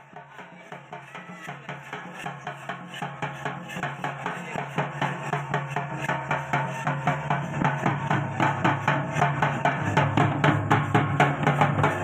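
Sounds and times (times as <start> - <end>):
hand-played barrel drum: 0.0 - 12.0.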